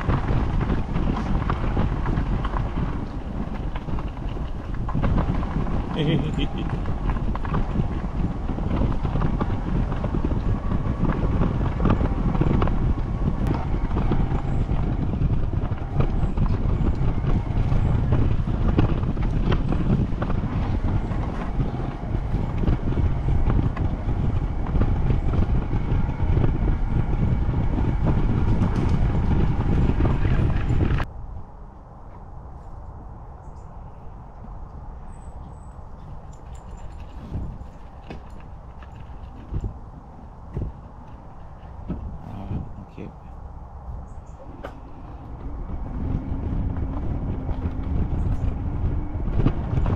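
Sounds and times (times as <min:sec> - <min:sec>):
tyres rumbling on gravel: 0:00.0 - 0:31.1, 0:35.0 - 0:49.9.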